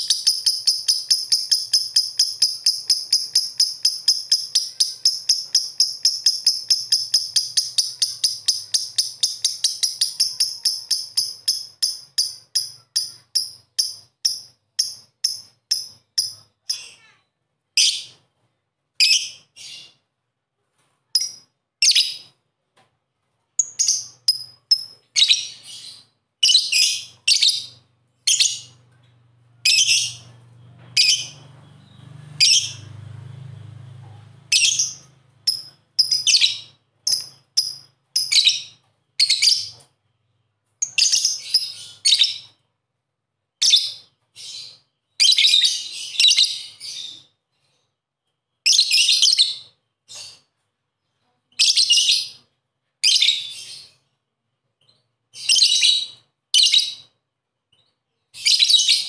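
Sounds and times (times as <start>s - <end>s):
lovebird chirping: 0.0s - 17.1s, 21.1s - 22.4s, 23.6s - 33.0s, 34.5s - 42.7s, 43.6s - 47.6s, 48.5s - 50.5s, 51.5s - 54.2s, 54.8s - 57.1s, 57.7s - 59.0s.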